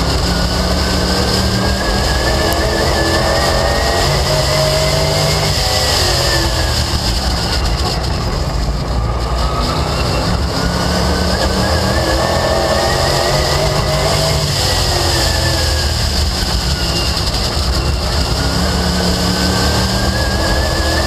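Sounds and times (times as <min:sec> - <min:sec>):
race car engine: 0:00.0 - 0:21.0
wind and road noise: 0:00.0 - 0:21.0.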